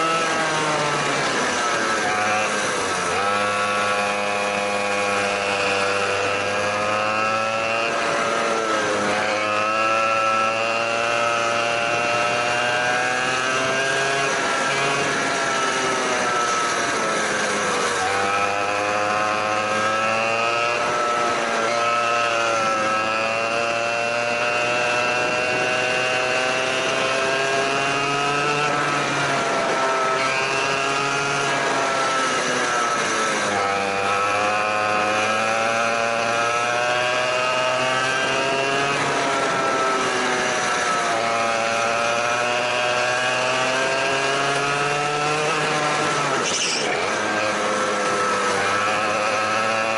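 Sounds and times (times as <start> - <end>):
go-kart engine revving: 0.0 - 49.9.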